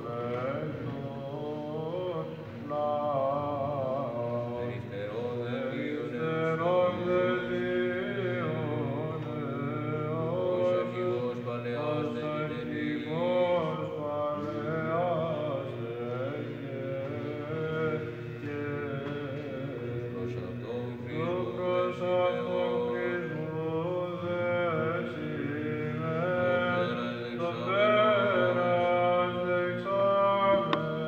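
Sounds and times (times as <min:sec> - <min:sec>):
low held vocal drone: 0:00.0 - 0:31.0
male choir chanting melody: 0:00.0 - 0:31.0.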